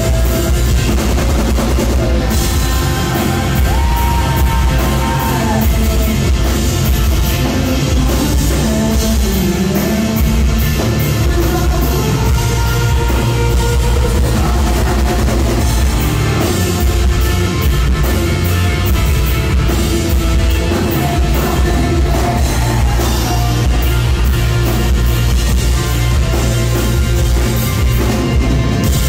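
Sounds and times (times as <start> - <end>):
bass guitar: 0.0 - 29.0
drum kit: 0.0 - 29.0
electric guitars: 0.0 - 29.0.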